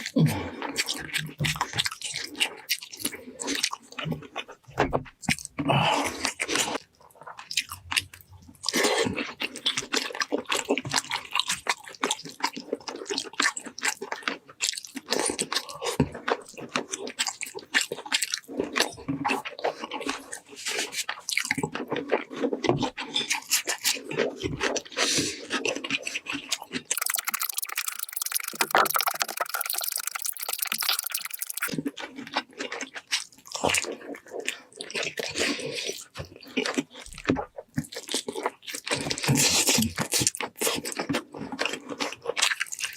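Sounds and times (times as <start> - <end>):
chewing and crunching meat: 0.0 - 42.9.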